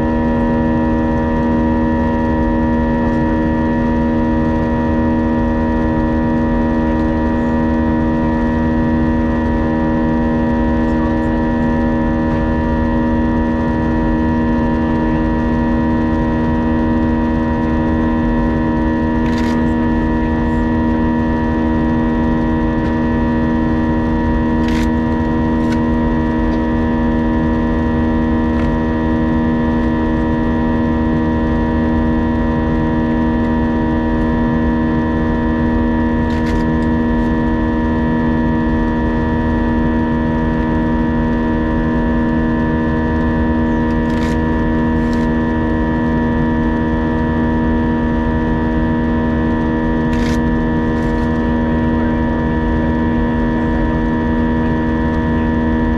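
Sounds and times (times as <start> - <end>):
aircraft cabin engine hum: 0.0 - 55.9.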